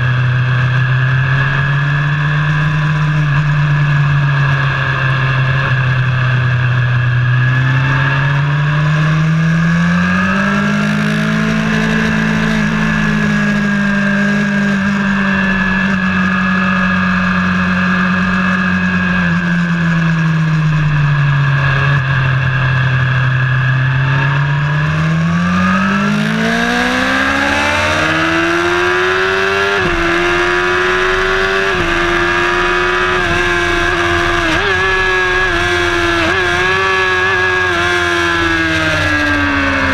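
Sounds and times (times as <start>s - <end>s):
car engine revving and upshifting: 0.0s - 39.9s
steady high whine: 0.0s - 39.9s.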